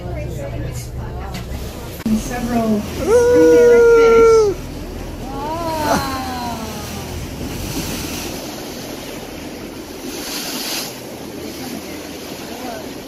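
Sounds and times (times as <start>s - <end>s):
bow wave splashing along hull: 0.0s - 13.0s
wind buffeting microphone: 1.4s - 13.0s.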